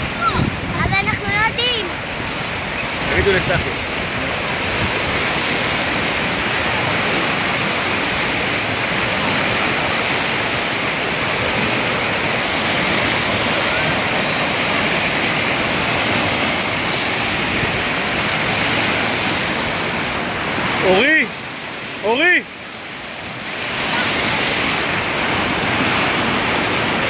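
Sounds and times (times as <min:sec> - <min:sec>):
surf rushing over shallows: 0:00.0 - 0:27.0.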